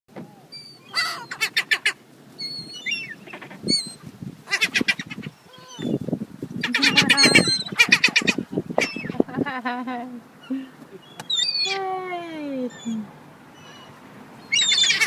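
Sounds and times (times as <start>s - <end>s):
seagulls calling: 0.2s - 15.0s.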